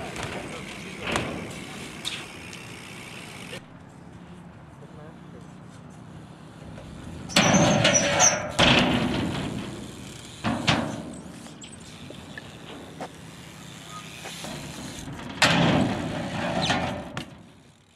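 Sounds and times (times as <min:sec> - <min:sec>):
bike scraping grind: 0:00.0 - 0:03.7, 0:05.6 - 0:17.9
bike tyre rolling on concrete: 0:00.0 - 0:03.7, 0:05.7 - 0:17.9.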